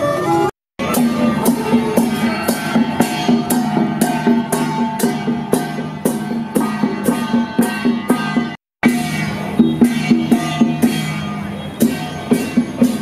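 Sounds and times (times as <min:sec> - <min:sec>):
melody on pitched instruments: 0:00.0 - 0:13.0
percussion strokes: 0:00.0 - 0:13.0.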